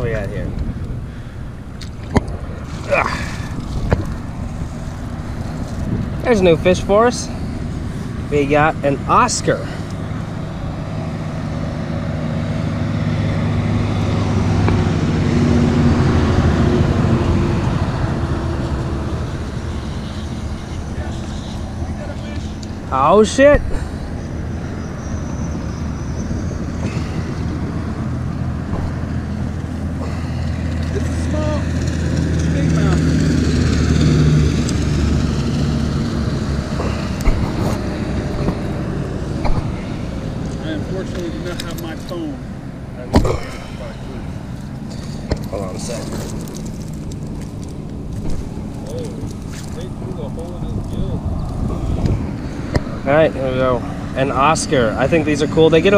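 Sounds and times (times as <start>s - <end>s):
passing vehicle engine and tyres: 0.0s - 55.9s.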